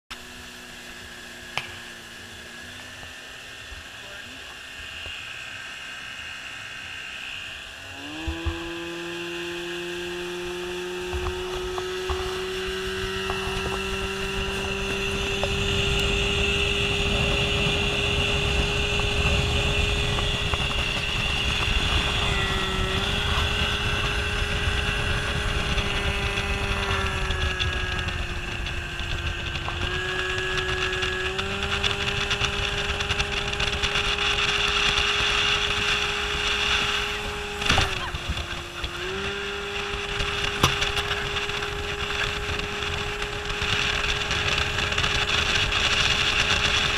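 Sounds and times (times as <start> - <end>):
outboard motor running: 0.1 - 46.9.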